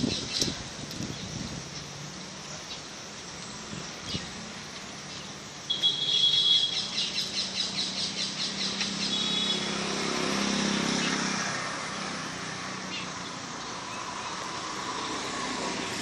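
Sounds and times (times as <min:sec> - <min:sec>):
songbird calling: 0:00.0 - 0:10.0, 0:10.7 - 0:11.3, 0:12.8 - 0:15.2
road traffic hum: 0:00.0 - 0:16.0.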